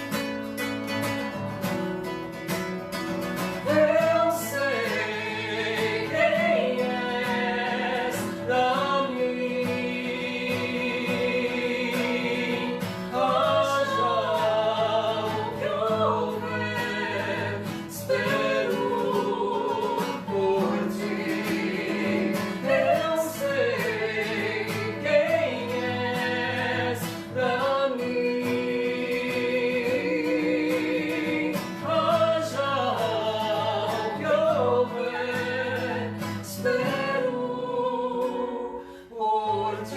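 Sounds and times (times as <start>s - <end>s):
acoustic guitar: 0.0s - 39.9s
person singing with vibrato: 3.5s - 39.9s.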